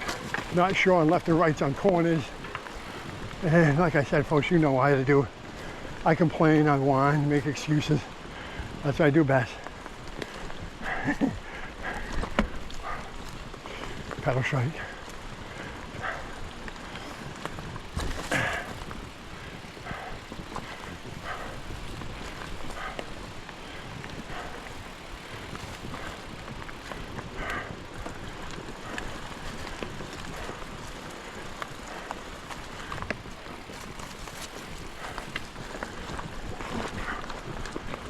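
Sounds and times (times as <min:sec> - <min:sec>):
bike rattling and knocking: 0:00.0 - 0:38.0
bike tyres rumbling on dirt: 0:00.0 - 0:38.0.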